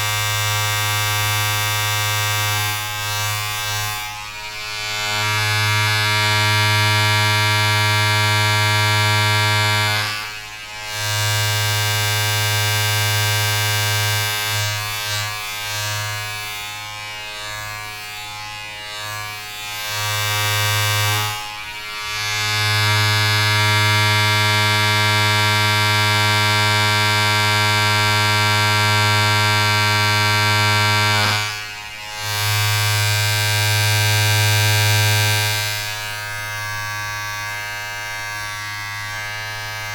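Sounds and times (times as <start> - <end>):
electric appliance buzzing: 0.0 - 39.9.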